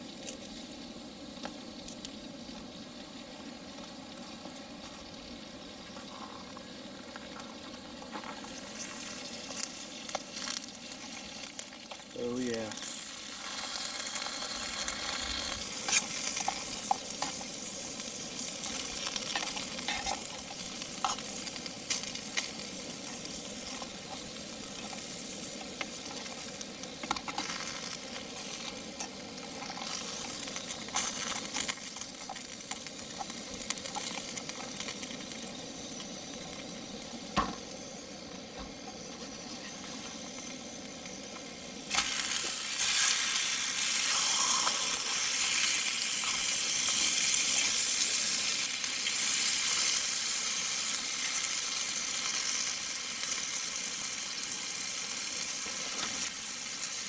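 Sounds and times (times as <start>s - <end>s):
potatoes sizzling in a pan: 0.0s - 57.0s.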